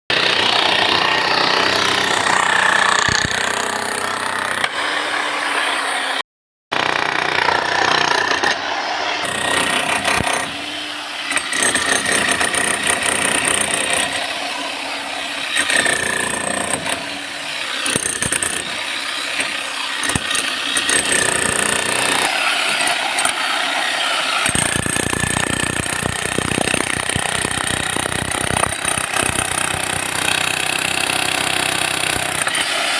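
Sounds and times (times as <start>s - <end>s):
concrete breaker hammering: 0.1s - 4.8s, 6.7s - 8.6s, 9.2s - 32.9s.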